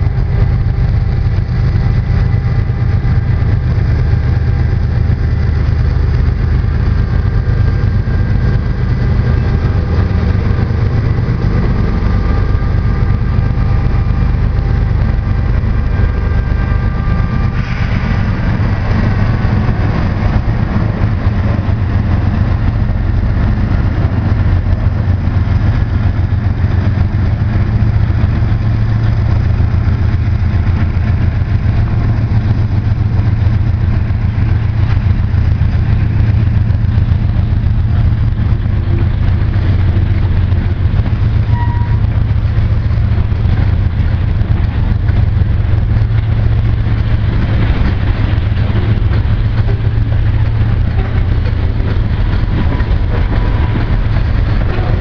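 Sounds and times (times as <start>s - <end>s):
diesel locomotive engine drone: 0.0s - 55.0s
high locomotive whine: 0.0s - 55.0s
rush of passing locomotive: 0.0s - 55.0s.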